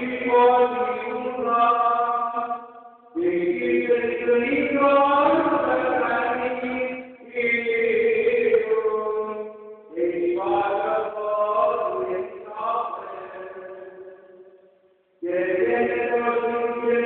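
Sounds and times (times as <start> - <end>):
person chanting: 0.0 - 14.5, 15.2 - 17.0.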